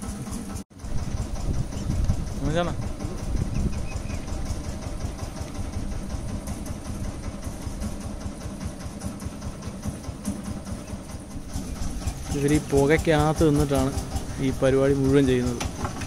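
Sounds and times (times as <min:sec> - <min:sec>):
motor running low rumble: 0:00.0 - 0:16.0.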